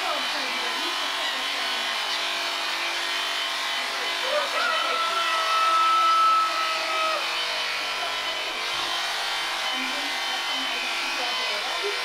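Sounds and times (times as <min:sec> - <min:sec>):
electric shears buzzing: 0:00.0 - 0:12.0.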